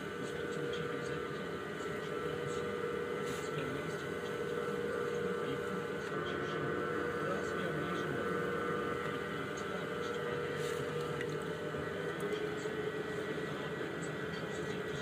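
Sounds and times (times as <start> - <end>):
potter's wheel motor humming: 0.0 - 15.0.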